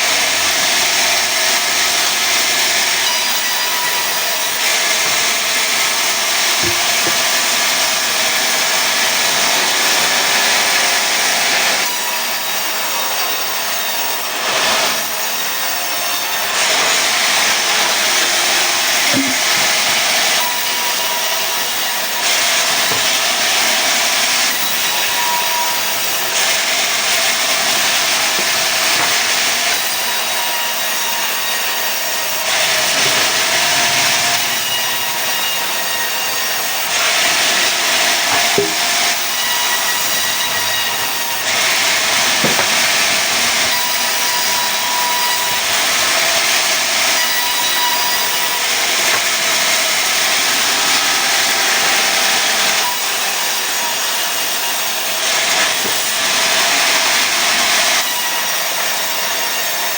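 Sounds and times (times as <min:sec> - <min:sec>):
saw blade cutting wood: 0:00.0 - 0:59.6.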